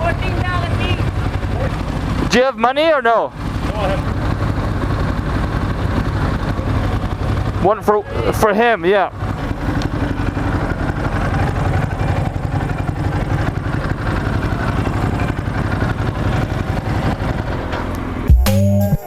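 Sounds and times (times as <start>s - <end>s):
wind and road noise: 0.0s - 18.3s
motorcycle engine running: 0.0s - 19.0s.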